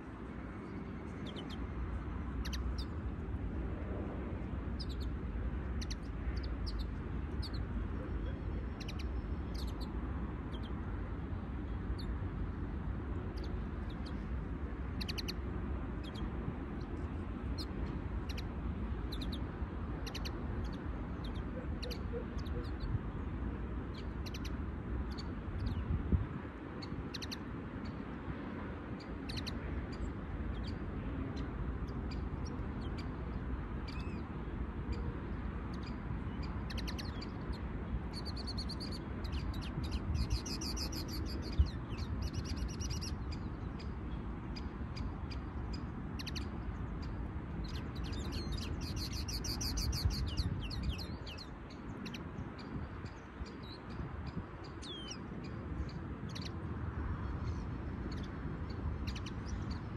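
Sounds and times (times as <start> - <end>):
songbirds chirping: 0.0 - 59.9
bird fast twittering song: 0.6 - 3.1, 4.6 - 10.9, 13.2 - 23.2, 23.8 - 28.1, 28.9 - 34.3, 35.7 - 59.9.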